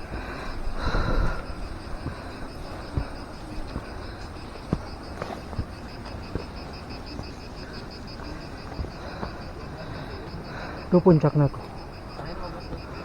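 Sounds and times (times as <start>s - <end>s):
footsteps on trail: 0.0s - 13.0s.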